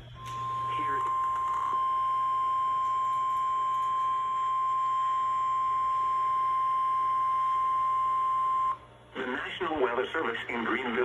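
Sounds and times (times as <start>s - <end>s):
steady high alarm beep: 0.0s - 8.9s.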